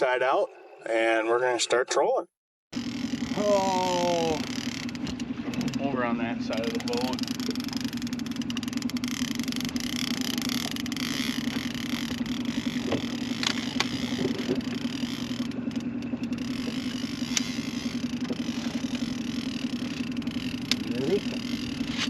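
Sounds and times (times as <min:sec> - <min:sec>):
boat motor running: 0:02.7 - 0:22.0.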